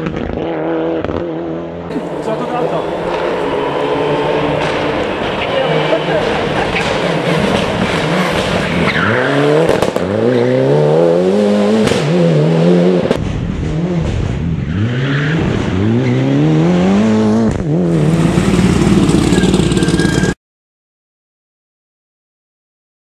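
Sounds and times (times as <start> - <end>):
car engine accelerating hard: 0.0 - 20.4.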